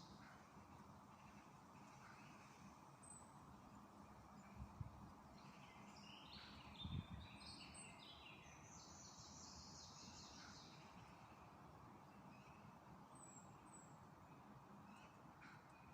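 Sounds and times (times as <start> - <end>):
songbird singing: 0.0 - 15.9
steady background hiss: 0.0 - 15.9.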